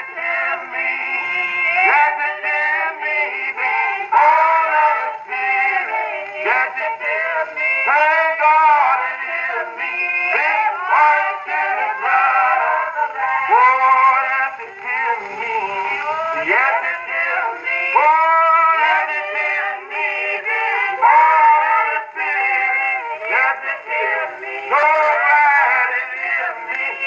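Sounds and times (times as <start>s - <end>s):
soloist and congregation singing hymn: 0.0s - 27.0s.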